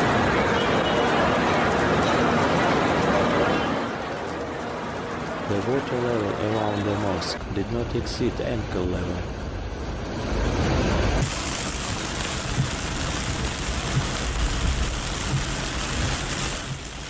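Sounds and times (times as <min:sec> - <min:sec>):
rain and water rushing: 0:00.0 - 0:17.0
traffic: 0:00.0 - 0:17.0.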